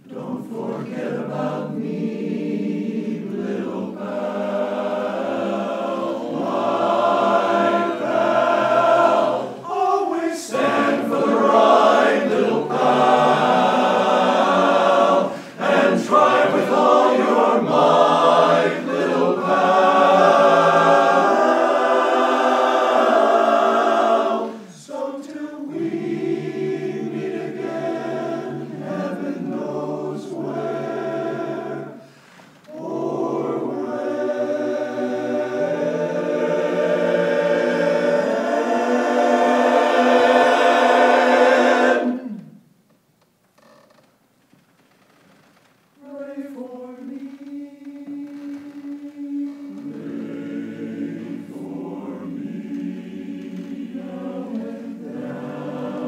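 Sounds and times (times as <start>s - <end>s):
men's chorus singing a cappella: 0.0s - 42.5s, 46.0s - 56.0s.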